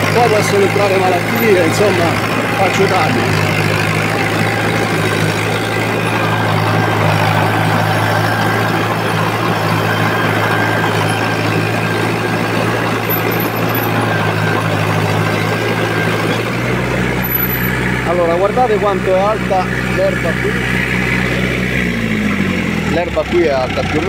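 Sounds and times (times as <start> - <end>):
harrow mechanical rumble: 0.0 - 24.0
tractor engine under load: 0.0 - 24.0.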